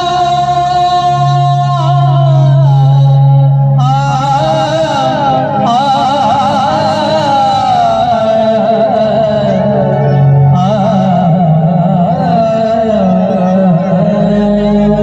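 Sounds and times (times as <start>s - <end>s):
banjo band music over loudspeakers: 0.0s - 15.0s.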